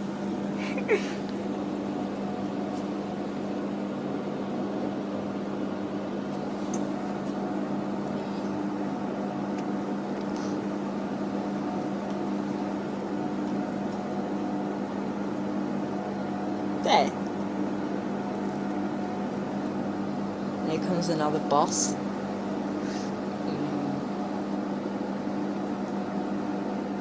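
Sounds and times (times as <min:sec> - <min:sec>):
train carriage hum: 0:00.0 - 0:27.0.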